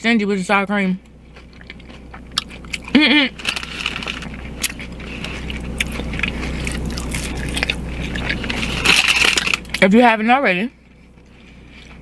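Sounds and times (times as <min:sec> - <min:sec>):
person chewing crunchy taco: 0:01.0 - 0:10.0, 0:10.8 - 0:12.0.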